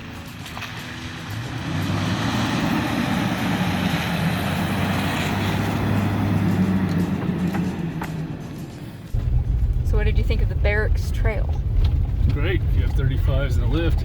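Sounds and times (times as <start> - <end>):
pickup engine hum: 0.0 - 14.0
tyre and road noise: 0.0 - 14.0.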